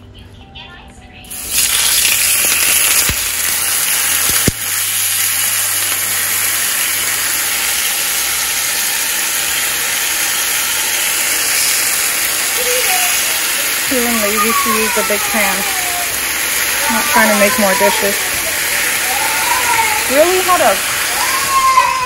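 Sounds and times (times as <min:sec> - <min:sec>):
bacon sizzling in frying pan: 0:01.3 - 0:22.0.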